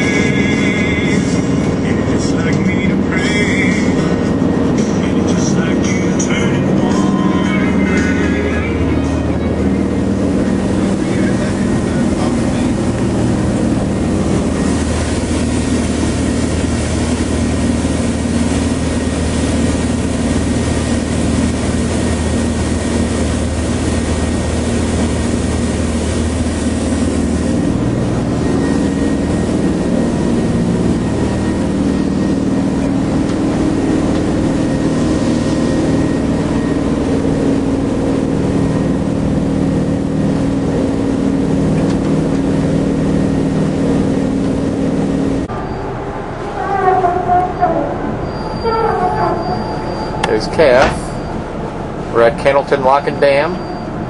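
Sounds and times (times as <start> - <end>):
boat diesel engines droning: 0.0 - 54.0.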